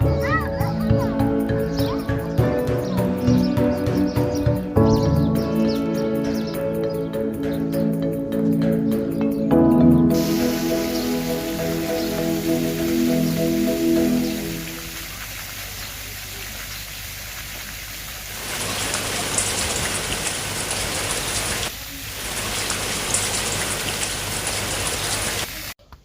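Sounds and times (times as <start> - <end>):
falling water hiss and patter: 0.0 - 8.6, 9.8 - 25.8.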